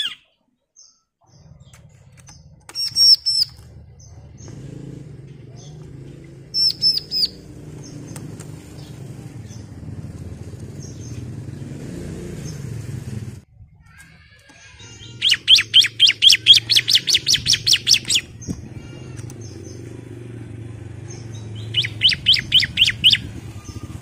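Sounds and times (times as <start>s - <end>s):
bird chirping: 0.0s - 12.8s, 13.7s - 24.0s.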